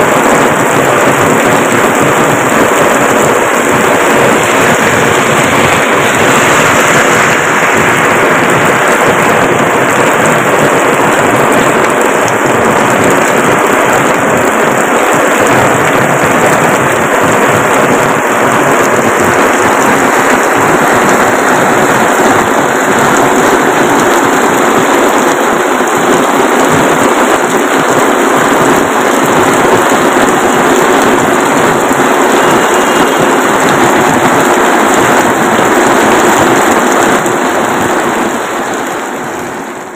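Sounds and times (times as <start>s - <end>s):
heavy rain splashing into water: 0.0s - 39.9s.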